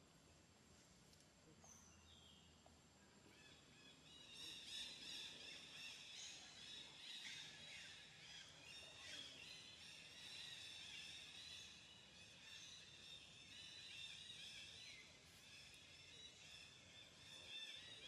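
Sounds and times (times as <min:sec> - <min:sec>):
birds chirping and trilling: 0:03.4 - 0:18.0.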